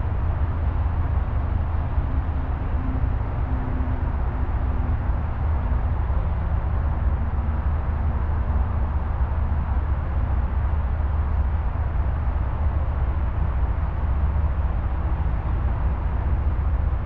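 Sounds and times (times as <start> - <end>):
faint engine hum: 0.0 - 17.0.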